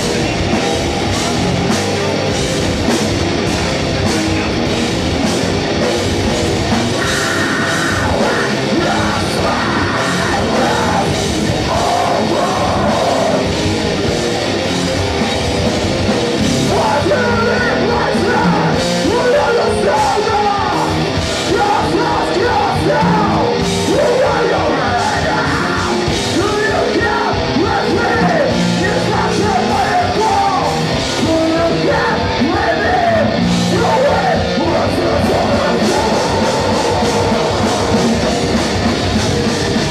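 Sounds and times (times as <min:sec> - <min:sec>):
drums: 0:00.0 - 0:39.9
heavy guitars: 0:00.0 - 0:39.9
harsh yelled vocals: 0:06.2 - 0:39.9.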